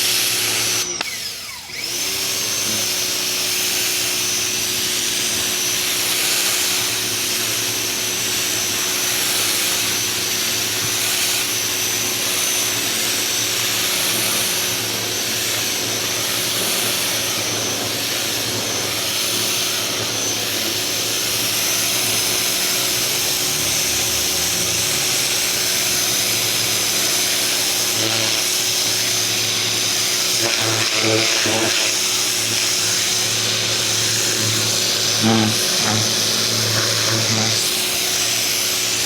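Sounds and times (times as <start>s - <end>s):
high-pressure water jet hiss: 0.0s - 39.0s
pressure washer motor humming: 0.0s - 39.0s.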